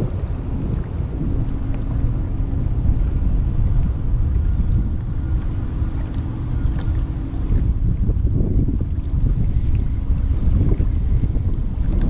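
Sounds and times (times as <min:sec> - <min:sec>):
faint steady hum: 0:00.0 - 0:12.0
wind buffeting microphone: 0:00.0 - 0:12.0.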